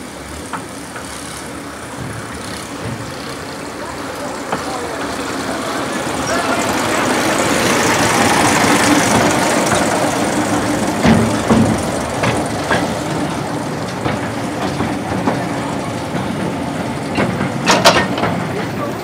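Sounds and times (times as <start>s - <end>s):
train running slowly: 0.0s - 19.0s.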